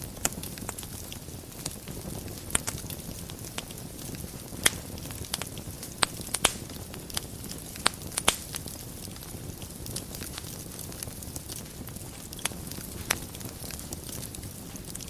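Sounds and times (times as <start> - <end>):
fire crackles and pops: 0.0 - 15.0
wood fire rushing: 0.0 - 15.0.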